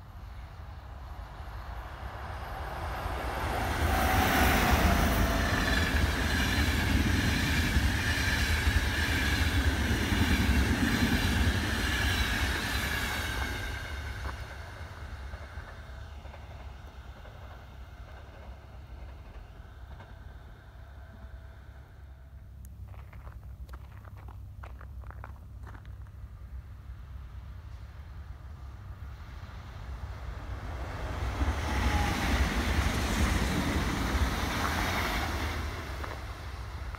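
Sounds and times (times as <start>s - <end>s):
train passing: 0.0s - 36.9s.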